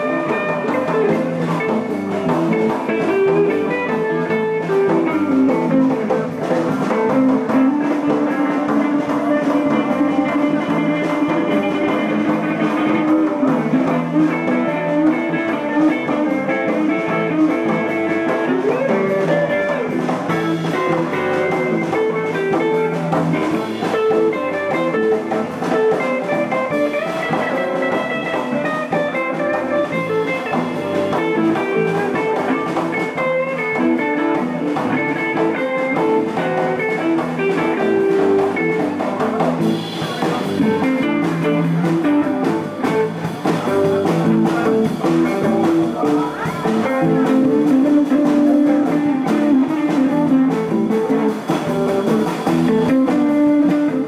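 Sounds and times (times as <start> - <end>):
blues band playing: 0.0 - 54.0
guitar sliding notes: 0.0 - 54.0.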